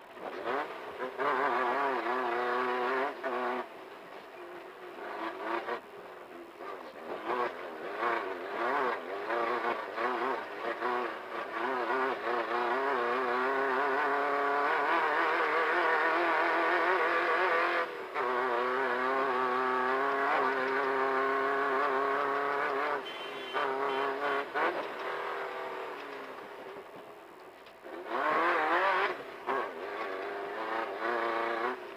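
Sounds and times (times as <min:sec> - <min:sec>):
race car engine revving: 0:00.1 - 0:31.9.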